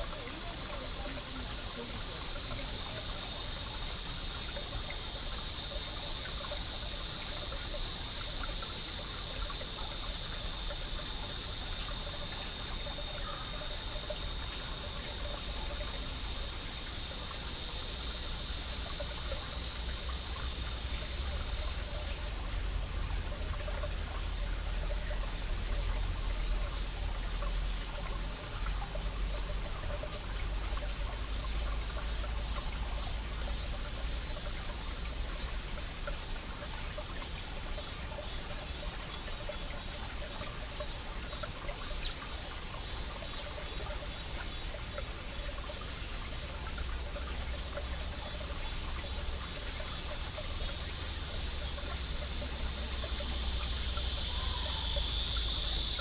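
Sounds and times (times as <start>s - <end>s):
cicada chorus: 0.0s - 56.0s
water trickling among rocks: 0.0s - 56.0s.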